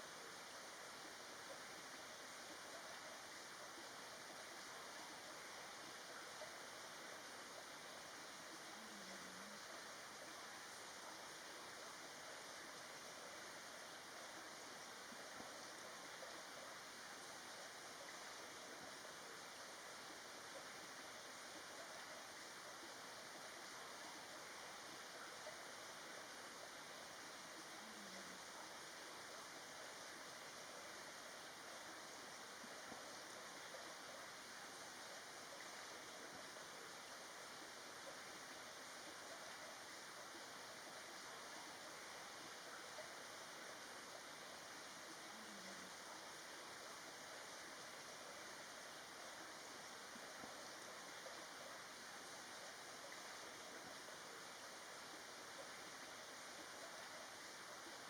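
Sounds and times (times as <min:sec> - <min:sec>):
faint steady hiss: 0:00.0 - 0:58.0
faint steady rushing noise: 0:00.0 - 0:58.0.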